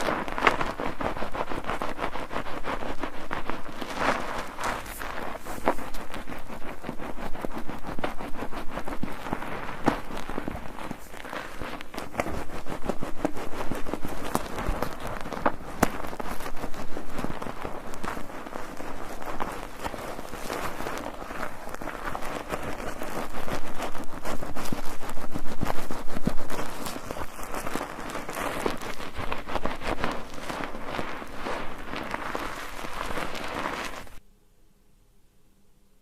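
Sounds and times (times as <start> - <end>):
soap lather squelching: 2.6 - 34.2.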